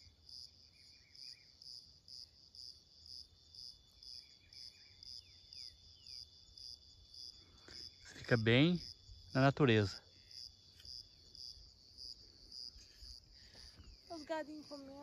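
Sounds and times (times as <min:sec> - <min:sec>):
faint bird chirps: 0:00.0 - 0:01.8, 0:03.9 - 0:06.3, 0:07.2 - 0:15.0
insect chirping rhythmically: 0:00.0 - 0:15.0.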